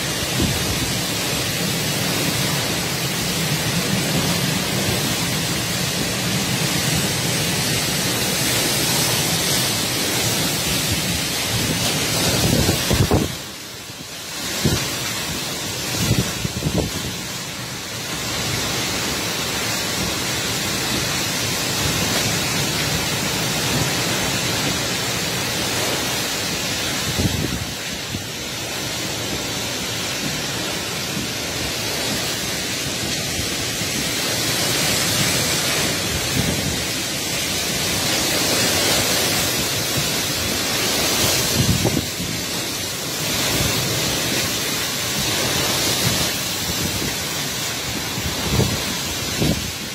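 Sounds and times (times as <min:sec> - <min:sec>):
storm wind blowing hard: 0:00.0 - 0:49.9
wind gusts thumping on microphone: 0:00.0 - 0:49.9.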